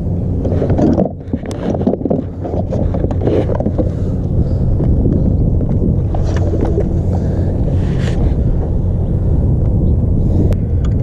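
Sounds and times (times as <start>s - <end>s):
steady low hum: 0.0s - 11.0s
wind buffeting microphone: 0.0s - 11.0s.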